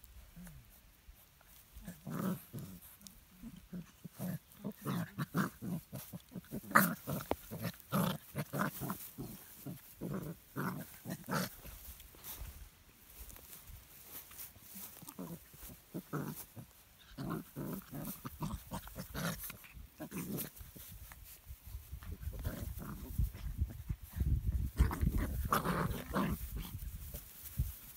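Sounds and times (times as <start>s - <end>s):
puppies growling and grunting: 1.5s - 27.8s.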